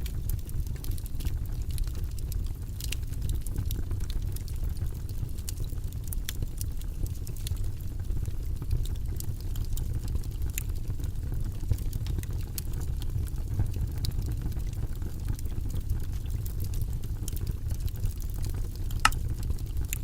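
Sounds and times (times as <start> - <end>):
faint clicks and ticks: 0.0 - 20.0.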